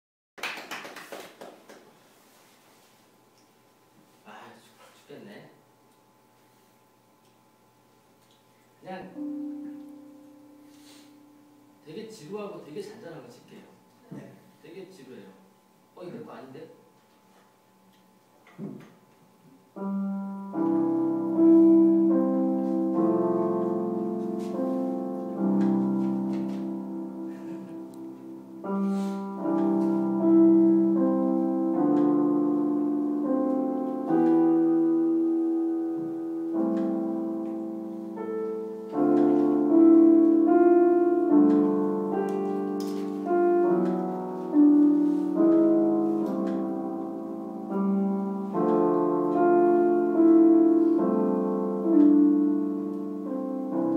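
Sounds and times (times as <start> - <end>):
slow calm piano piece: 6.2 - 15.3, 15.9 - 53.9.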